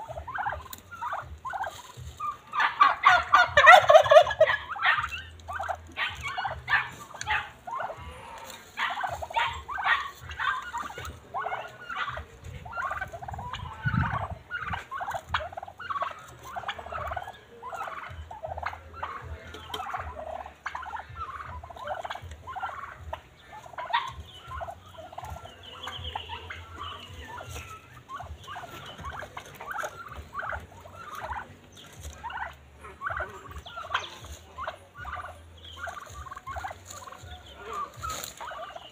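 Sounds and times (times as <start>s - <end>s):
turkeys calling: 0.0s - 38.9s.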